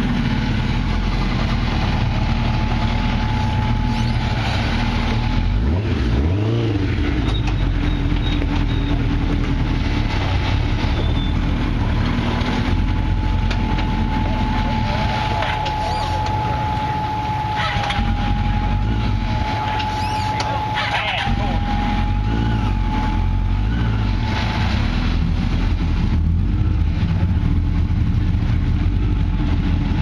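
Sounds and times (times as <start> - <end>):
buggy engine running under load: 0.0 - 30.0
engine revving: 0.0 - 30.0.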